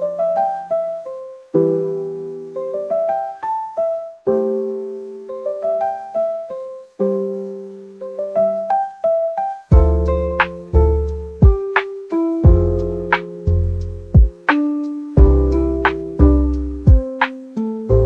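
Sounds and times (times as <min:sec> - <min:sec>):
single-note piano melody: 0:00.0 - 0:18.0
soft electric piano chords: 0:00.0 - 0:18.0.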